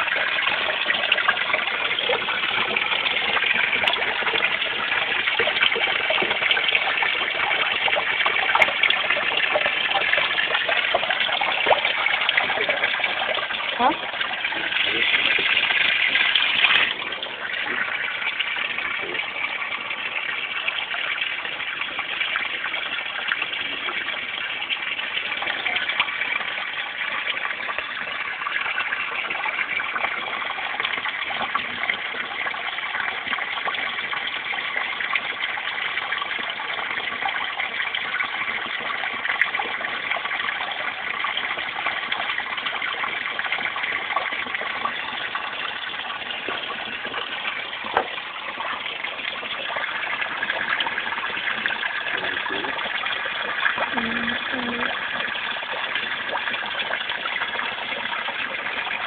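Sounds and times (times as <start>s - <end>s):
waterfall splashing into pond: 0.0s - 59.0s.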